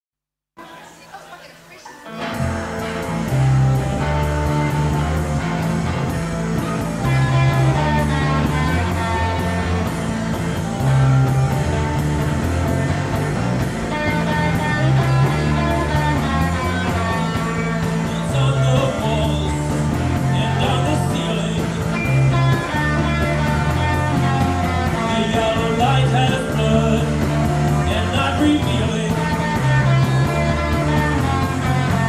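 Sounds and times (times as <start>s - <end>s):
rock band playing live: 1.5s - 32.0s.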